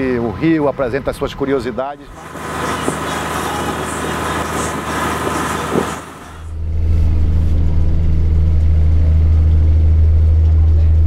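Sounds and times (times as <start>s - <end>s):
ship engine drone: 1.7s - 11.0s.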